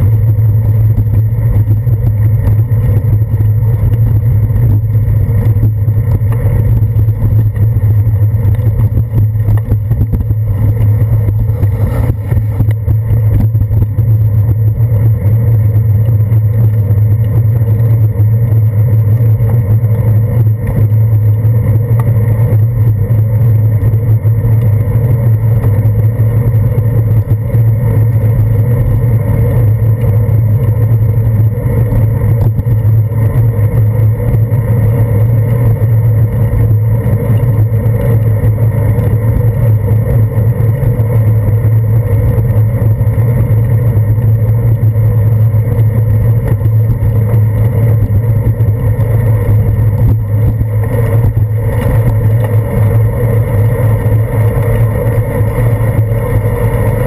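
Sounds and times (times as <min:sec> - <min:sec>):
road vibration rumble: 0:00.0 - 0:57.0
wind noise: 0:00.0 - 0:57.0.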